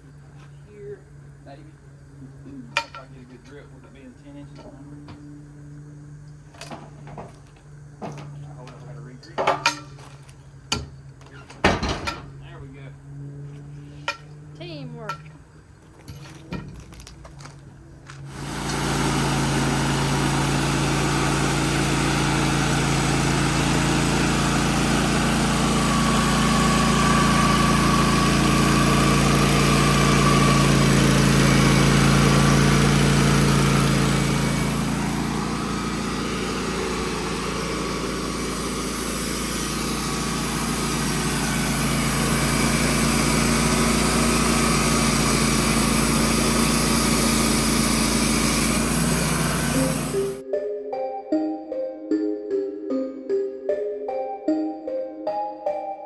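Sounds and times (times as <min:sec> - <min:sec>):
sawmill engine running: 0:00.0 - 0:50.4.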